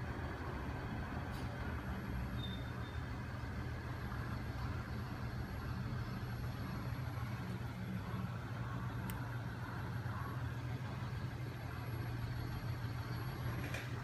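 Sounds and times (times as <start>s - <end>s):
machine low mechanical hum: 0.0s - 14.0s.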